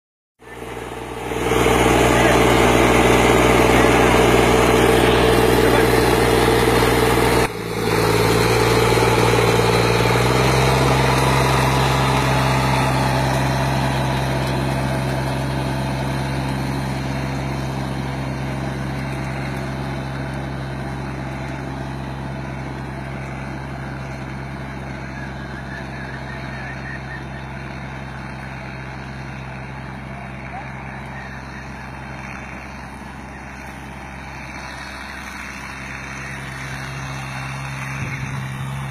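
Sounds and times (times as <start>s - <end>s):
tractor diesel engine running: 0.4s - 38.9s.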